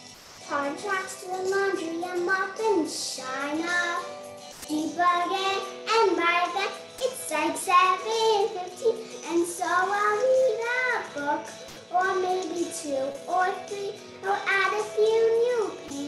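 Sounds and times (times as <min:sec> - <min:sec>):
girl singing: 0:00.4 - 0:16.0.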